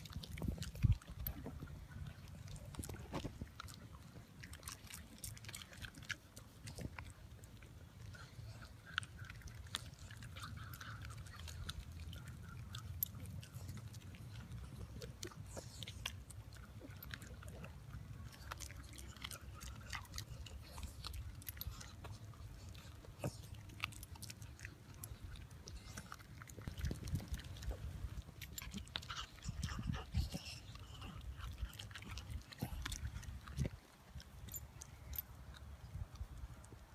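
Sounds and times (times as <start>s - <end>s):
dogs chewing and crunching: 0.0s - 36.9s.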